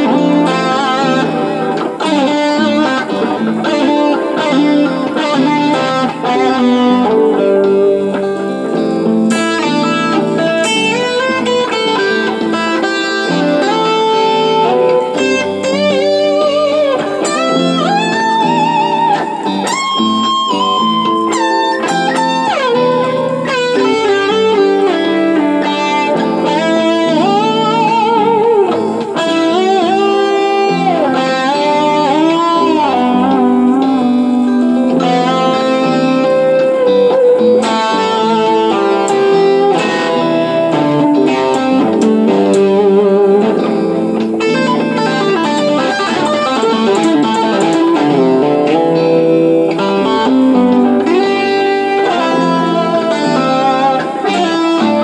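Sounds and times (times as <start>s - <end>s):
lead electric guitar: 0.0s - 55.0s
looped guitar backing: 0.0s - 55.0s.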